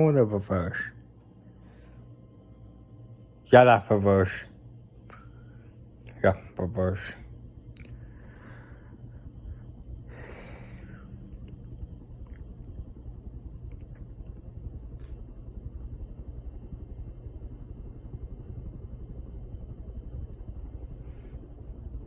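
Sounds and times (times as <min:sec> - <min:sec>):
ceiling fan rumbling: 0:00.0 - 0:22.0.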